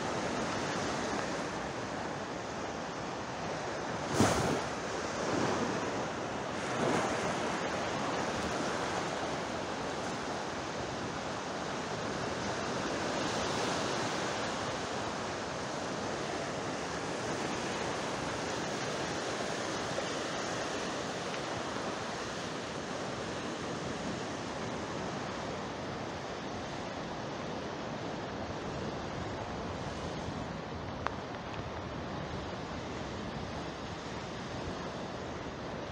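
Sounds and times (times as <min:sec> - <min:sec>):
sea waves washing in: 0:00.0 - 0:35.9.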